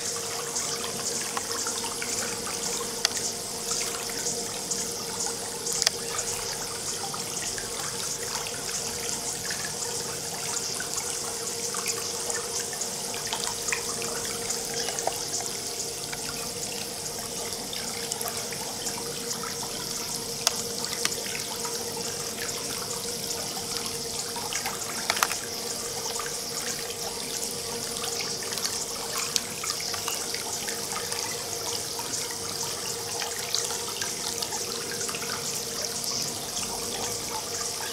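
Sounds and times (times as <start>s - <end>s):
pool water lapping: 0.0s - 37.9s
steady hum: 0.0s - 37.9s
water drips and splashes: 0.0s - 37.9s.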